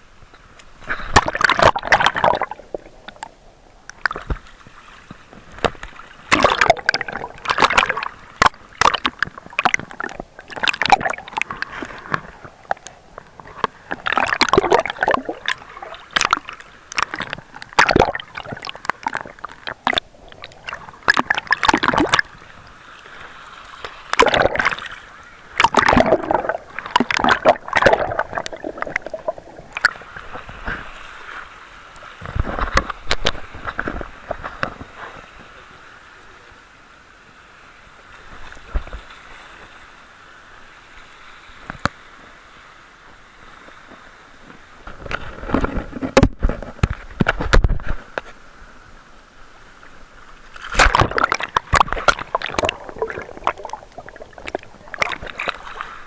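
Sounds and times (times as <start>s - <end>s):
sea water splashing over rocks: 0.0s - 36.7s, 37.3s - 56.0s.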